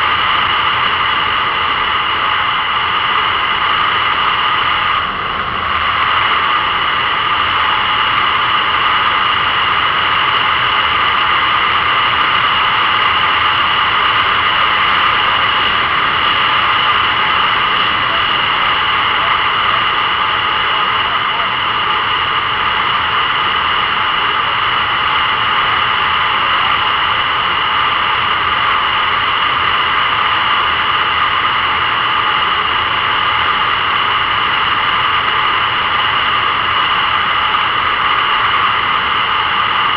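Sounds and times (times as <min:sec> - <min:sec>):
high steady ringing tone: 0:00.0 - 0:39.9.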